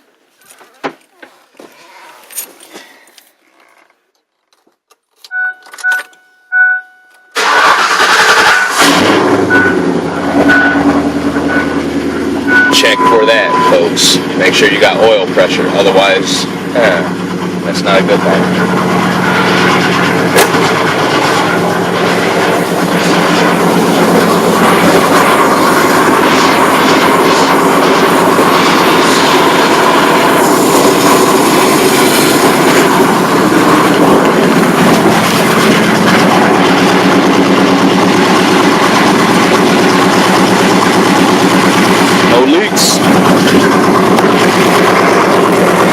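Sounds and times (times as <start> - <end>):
engine idling: 7.4 - 45.9.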